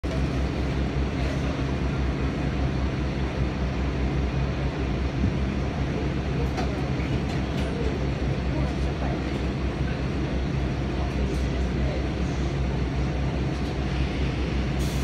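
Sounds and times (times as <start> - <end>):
train engine idling hum: 0.0 - 15.0.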